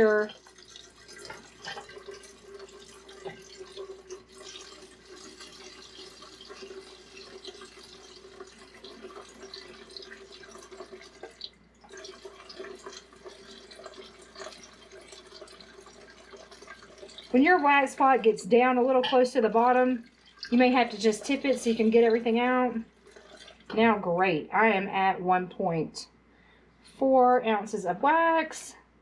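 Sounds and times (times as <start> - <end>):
wax pouring into metal pitcher: 0.0 - 23.7
small drips: 0.0 - 23.9.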